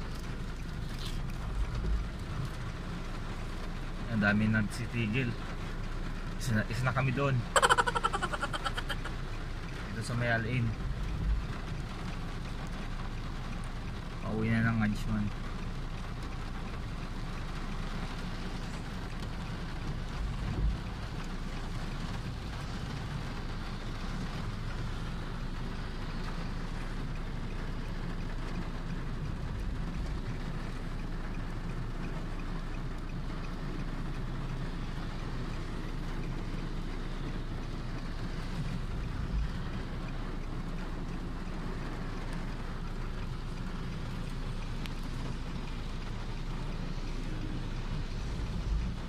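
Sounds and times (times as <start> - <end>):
car and traffic rumble: 0.0 - 49.0
heavy rain drumming on car: 0.0 - 49.0.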